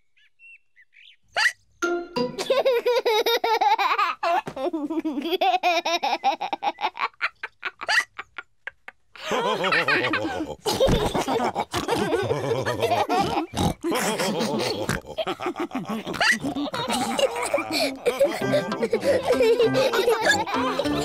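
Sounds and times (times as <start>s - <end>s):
child giggling: 2.4s - 21.0s
voices laughing together: 2.4s - 21.0s.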